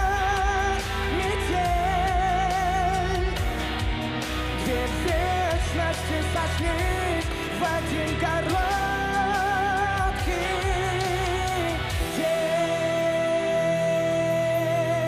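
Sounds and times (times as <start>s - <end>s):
live backing music: 0.0s - 15.0s
man singing pop ballad: 0.0s - 15.0s.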